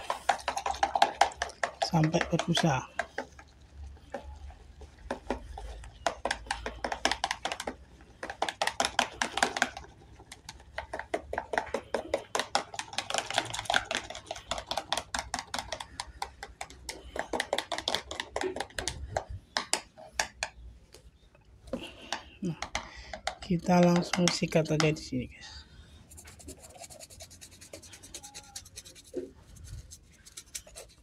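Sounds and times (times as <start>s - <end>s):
brush clacking against plastic: 0.0s - 25.2s, 26.1s - 31.0s.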